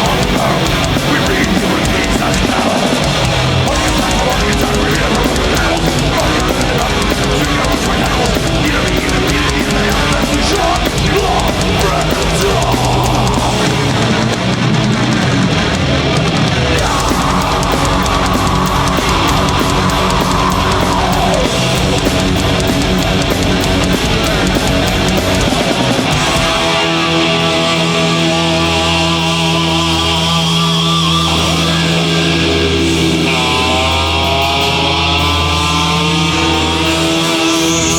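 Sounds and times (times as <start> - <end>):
bass guitar: 0.0 - 37.9
distorted electric guitars: 0.0 - 37.9
drum kit: 0.0 - 37.9.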